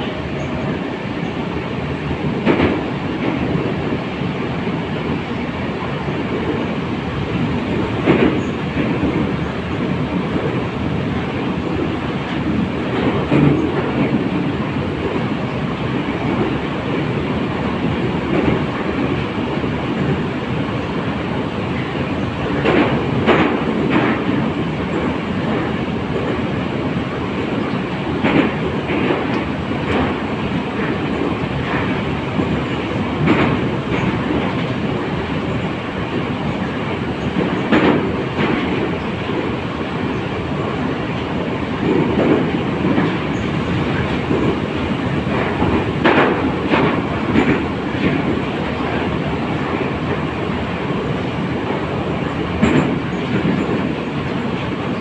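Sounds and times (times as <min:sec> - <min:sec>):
metro train rumble: 0:00.0 - 0:55.0.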